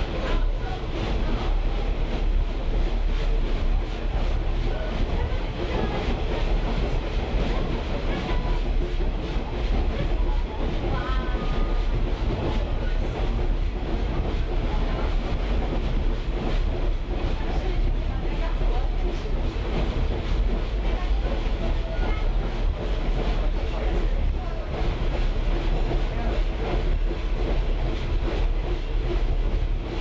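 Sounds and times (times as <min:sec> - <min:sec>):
clickety-clack of rail joints: 0:00.0 - 0:30.0
train wheels rumbling: 0:00.0 - 0:30.0.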